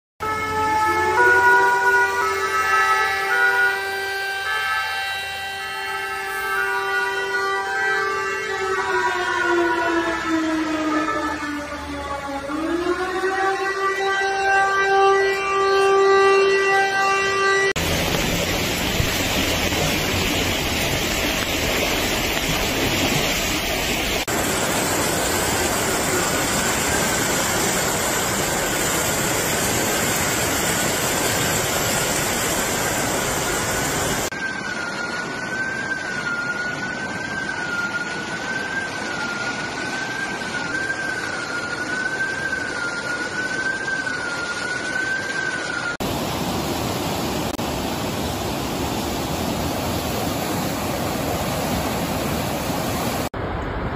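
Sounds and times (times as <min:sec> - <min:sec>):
rushing floodwater: 0:00.2 - 0:16.7, 0:17.8 - 0:53.9
warning siren: 0:00.2 - 0:46.6.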